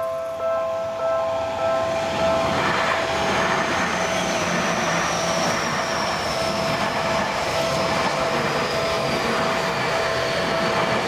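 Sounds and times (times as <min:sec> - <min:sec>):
crossing warning bell ringing: 0:00.0 - 0:11.0
train passing with high whine: 0:00.0 - 0:11.0.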